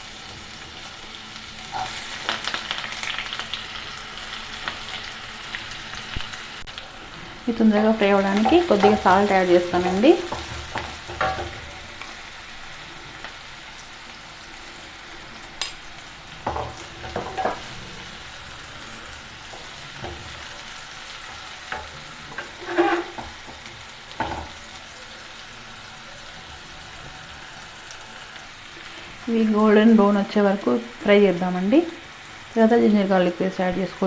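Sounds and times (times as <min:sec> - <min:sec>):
onions sizzling in a pan: 0:00.0 - 0:34.0.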